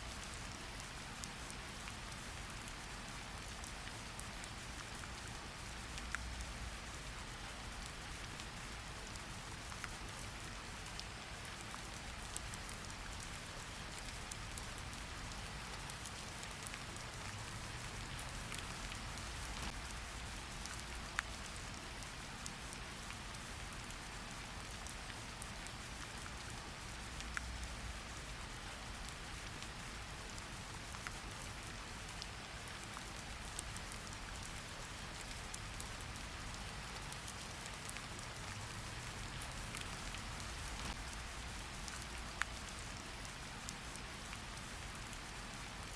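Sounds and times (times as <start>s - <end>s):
steady rain hiss: 0.0s - 45.9s
raindrops ticking: 0.2s - 45.4s.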